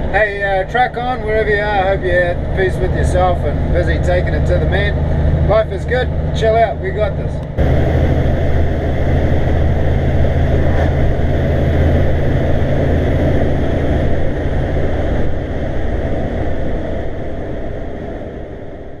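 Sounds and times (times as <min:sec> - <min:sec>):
road noise: 0:00.0 - 0:19.0
truck diesel engine running: 0:00.0 - 0:19.0.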